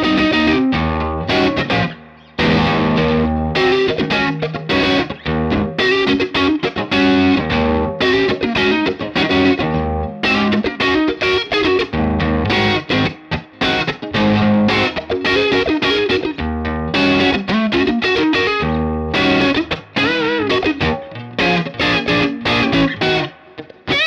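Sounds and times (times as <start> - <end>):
electric guitar lead notes: 0.0 - 24.0.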